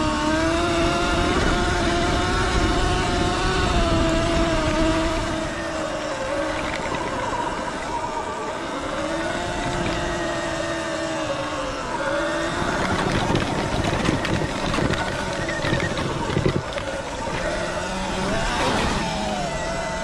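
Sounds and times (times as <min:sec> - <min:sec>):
electric motor whining: 0:00.0 - 0:20.0
rushing wind: 0:00.0 - 0:20.0.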